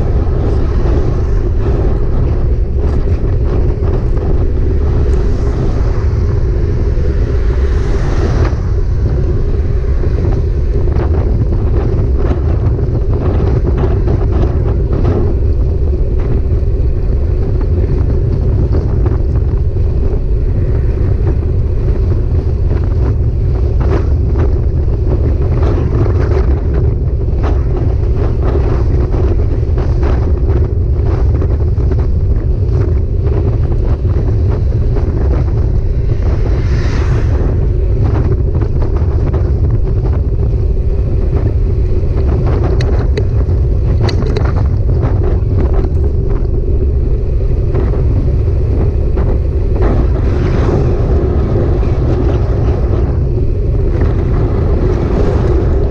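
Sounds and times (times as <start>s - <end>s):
road noise: 0.0s - 55.9s
wind rumble on microphone: 0.0s - 55.9s.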